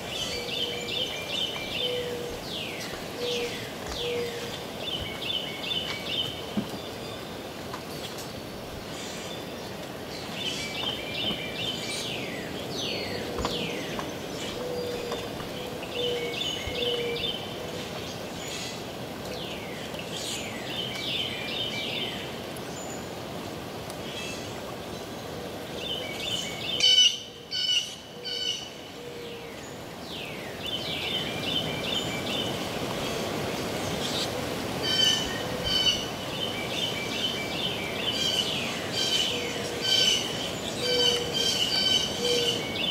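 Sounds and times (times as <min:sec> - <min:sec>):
steady background hiss: 0:00.0 - 0:42.9.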